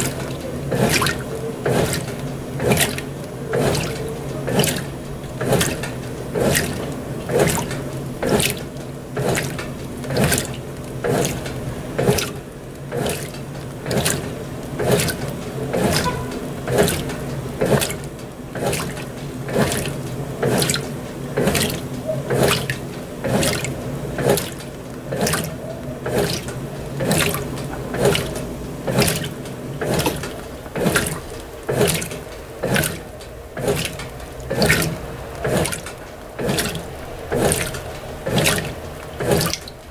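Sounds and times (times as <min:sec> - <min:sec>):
motor hum: 0:00.0 - 0:39.9
washing machine water swishing: 0:00.0 - 0:39.9.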